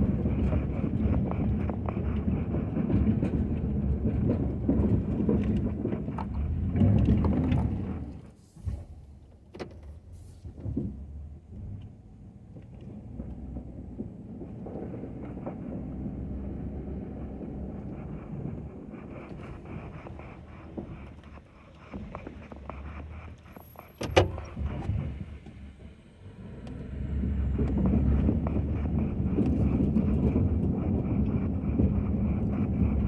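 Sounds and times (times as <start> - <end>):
pickup truck engine rumbling: 0.0 - 9.2, 9.9 - 33.0.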